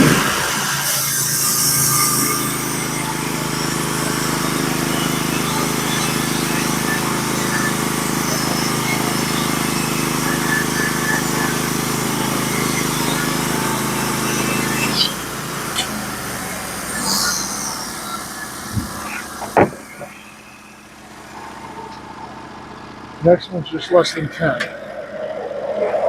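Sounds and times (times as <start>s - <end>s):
sawmill engine droning: 0.0s - 26.0s.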